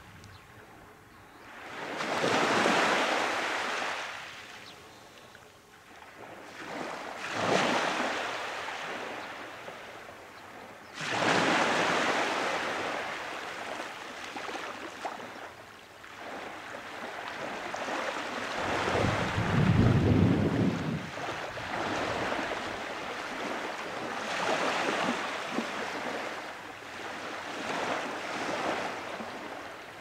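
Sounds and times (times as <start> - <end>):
small waves washing onto sand: 1.5 - 30.0.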